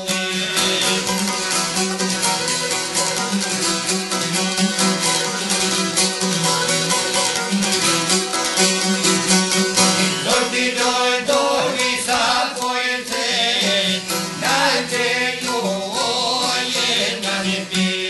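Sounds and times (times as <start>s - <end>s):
lutes strummed in folk rhythm: 0.0s - 18.0s.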